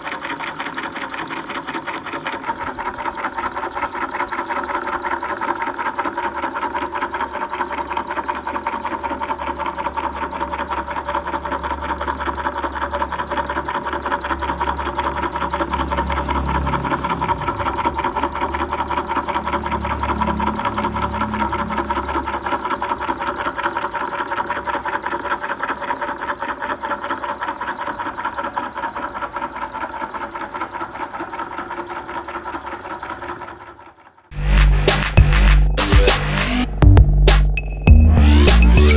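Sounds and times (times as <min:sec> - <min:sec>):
mechanical clatter: 0:00.0 - 0:38.9
motor hum: 0:00.0 - 0:38.9.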